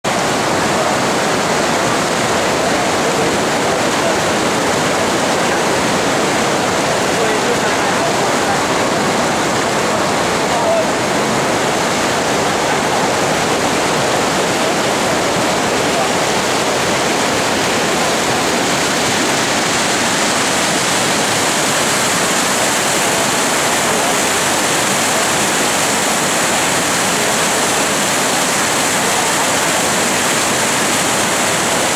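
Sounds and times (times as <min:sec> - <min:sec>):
whitewater rushing: 0:00.0 - 0:31.9.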